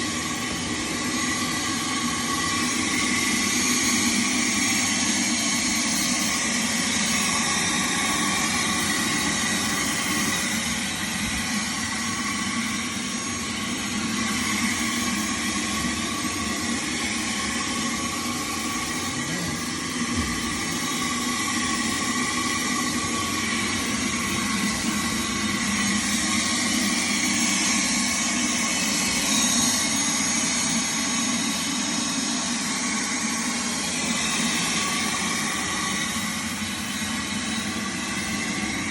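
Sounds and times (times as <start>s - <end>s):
shop vac whining motor: 0.0s - 38.9s.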